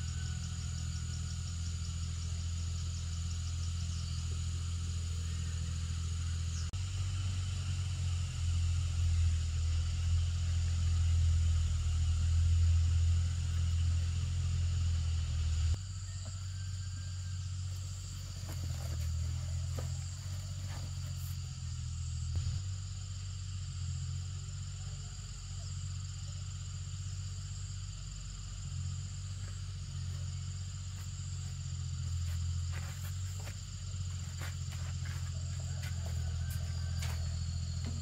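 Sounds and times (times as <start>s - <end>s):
high-pitched insect chorus: 0.0s - 38.0s
low steady rumble: 0.0s - 38.0s.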